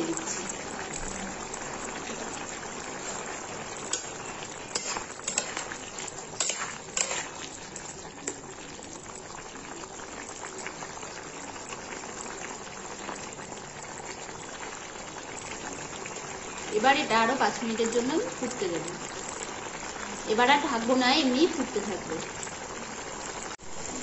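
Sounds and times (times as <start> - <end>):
bubbling hiss of simmering water: 0.0 - 24.0.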